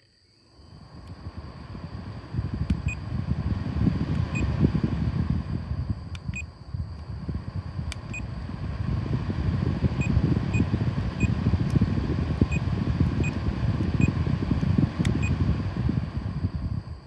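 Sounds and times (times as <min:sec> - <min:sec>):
air purifier low rumble: 0:00.0 - 0:17.0.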